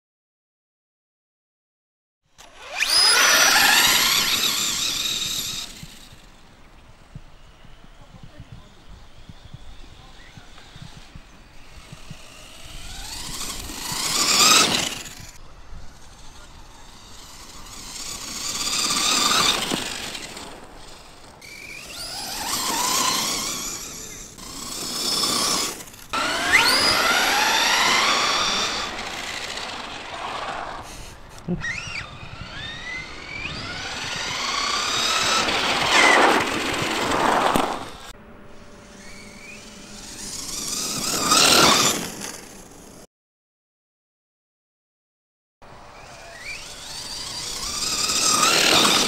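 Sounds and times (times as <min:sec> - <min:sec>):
electric motor whining: 0:02.4 - 0:43.0, 0:45.8 - 0:49.0.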